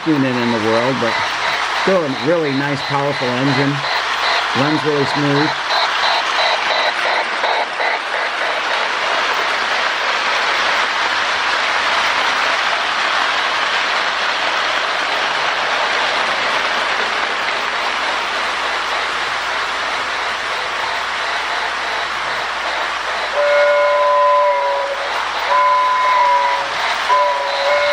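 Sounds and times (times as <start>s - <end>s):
model train running on track: 0.0s - 27.9s
model train steam chuffs: 0.0s - 27.9s
steam hiss: 0.0s - 27.9s.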